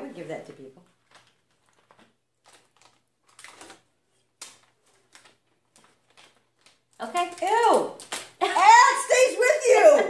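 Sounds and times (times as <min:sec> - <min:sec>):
plastic crinkling in hands: 0:00.8 - 0:09.2.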